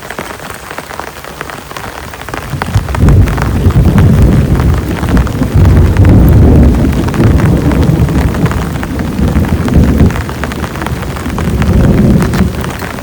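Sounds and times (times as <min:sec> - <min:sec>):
heavy rain: 0:00.0 - 0:13.0
deep thunder rumble: 0:02.3 - 0:13.0.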